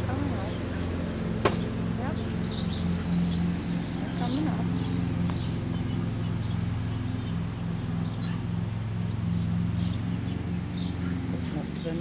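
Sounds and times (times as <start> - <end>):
low machine hum: 0.0 - 12.0
small birds chirping: 0.0 - 12.0.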